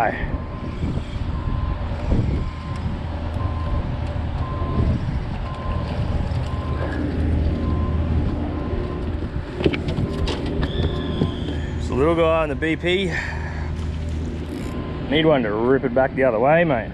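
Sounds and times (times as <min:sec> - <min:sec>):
reversing alarm beeping: 0:00.0 - 0:09.4, 0:10.0 - 0:15.7
low rumble of traffic or machinery: 0:00.0 - 0:16.9.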